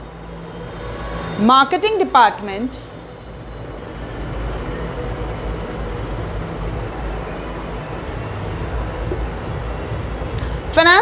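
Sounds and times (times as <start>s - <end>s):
low rumble of background noise: 0.0s - 11.0s.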